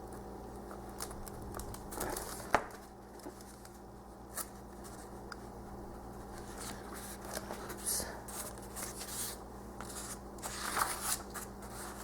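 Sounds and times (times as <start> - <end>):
faint steady hum: 0.0 - 12.0
magazine pages rustling: 0.9 - 5.2, 6.2 - 12.0.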